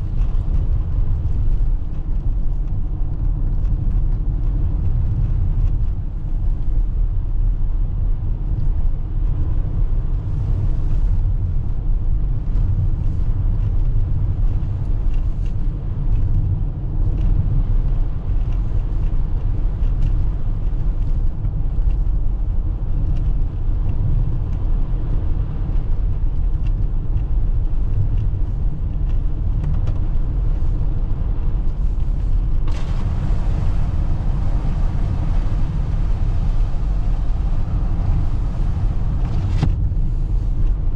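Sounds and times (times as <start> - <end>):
road and tyre rumble: 0.0 - 40.9.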